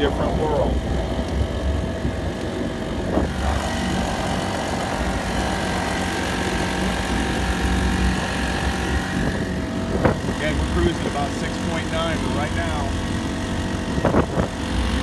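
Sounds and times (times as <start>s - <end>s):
outboard engine running: 0.0s - 15.0s.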